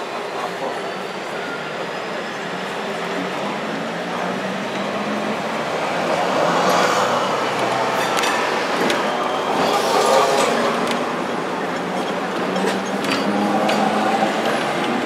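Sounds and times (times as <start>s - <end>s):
tram rumbling and rattling on rails: 0.0s - 15.0s.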